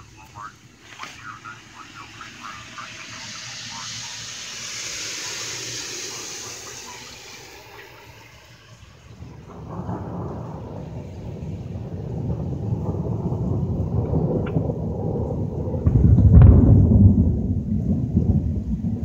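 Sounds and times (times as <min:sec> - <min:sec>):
rain hissing: 0:00.0 - 0:19.0
thunder rolling: 0:00.0 - 0:19.0.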